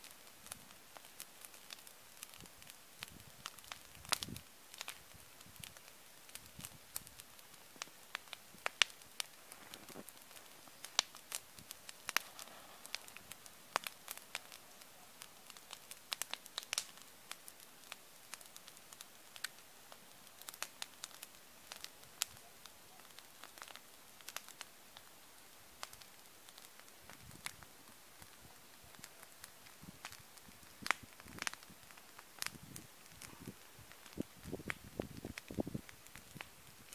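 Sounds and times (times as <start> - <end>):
bonfire crackling: 0.0 - 36.9
flame hiss: 0.0 - 36.9.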